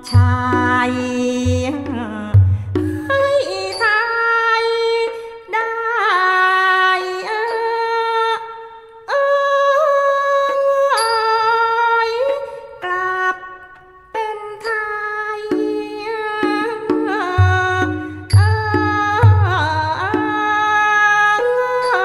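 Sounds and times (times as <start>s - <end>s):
person singing ornamented notes: 0.0s - 22.0s.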